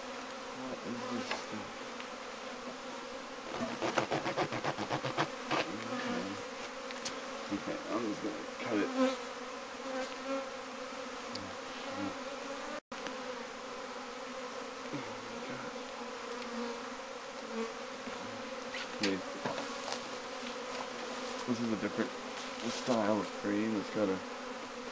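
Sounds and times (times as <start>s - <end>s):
bee flying past: 0.0s - 24.9s
bees buzzing around hive: 0.0s - 24.9s.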